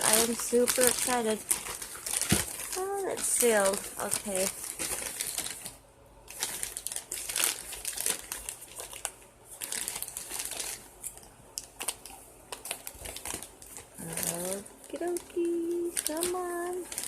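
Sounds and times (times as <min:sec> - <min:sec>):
crinkly packaging crackling: 0:00.0 - 0:17.0.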